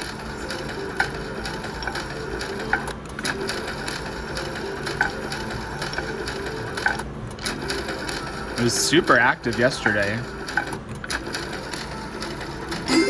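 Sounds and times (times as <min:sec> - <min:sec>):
casino floor din: 0:00.0 - 0:13.0
faint machine tones: 0:00.0 - 0:13.0
slot machine reels clicking: 0:00.0 - 0:13.0.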